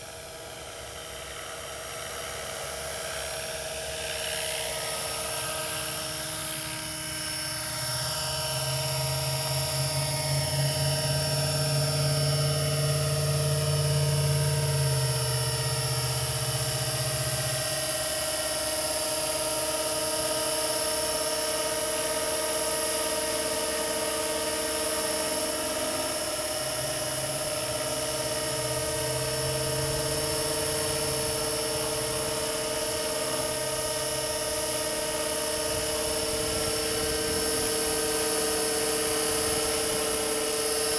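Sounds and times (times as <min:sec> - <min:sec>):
model helicopter motor whine: 0:00.0 - 0:40.9
rotor blades chopping: 0:04.7 - 0:40.9.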